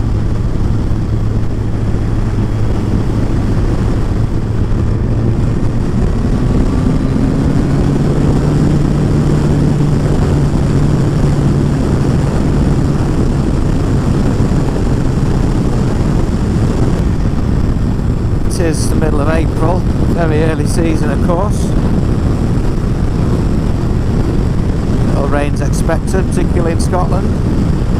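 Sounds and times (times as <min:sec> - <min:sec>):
motorcycle engine cruising: 0:00.0 - 0:27.9
wind and road noise: 0:00.0 - 0:27.9.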